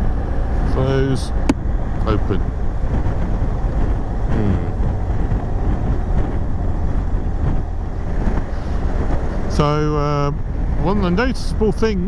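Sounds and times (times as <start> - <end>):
wind and road noise in helmet: 0.0 - 12.0.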